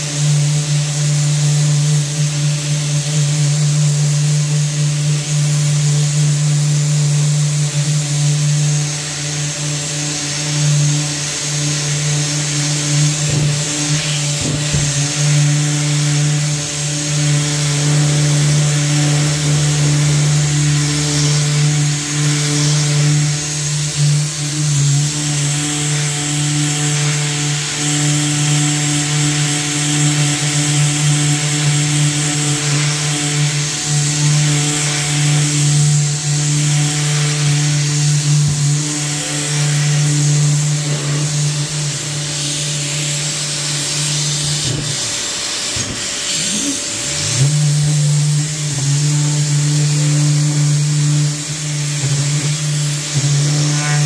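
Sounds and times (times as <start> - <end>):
orbital sander running: 0.0 - 54.0.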